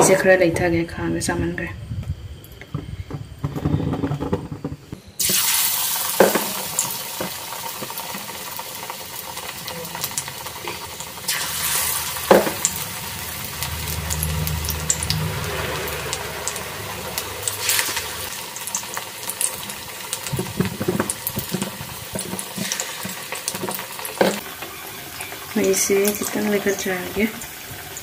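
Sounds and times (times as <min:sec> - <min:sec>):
batter sizzling in hot oil: 0:05.2 - 0:28.0.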